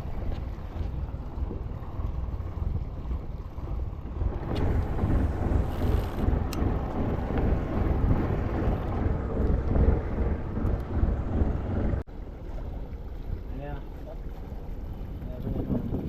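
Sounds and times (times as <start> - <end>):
water splashing: 0.0 - 16.0
wind buffeting microphone: 0.0 - 16.0.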